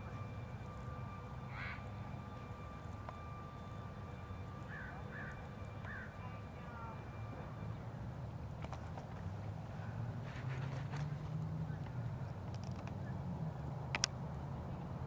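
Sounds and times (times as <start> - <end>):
faint whine: 0.0 - 15.0.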